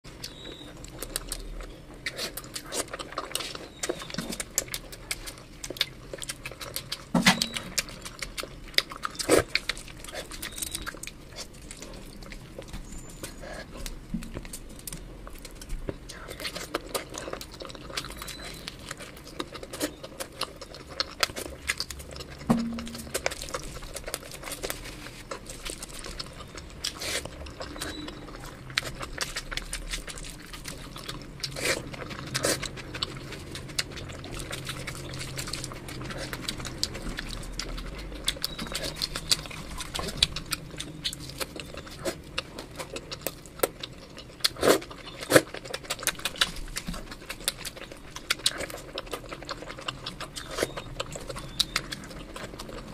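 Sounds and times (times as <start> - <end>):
wet chewing and lip-smacking: 0.0 - 52.9.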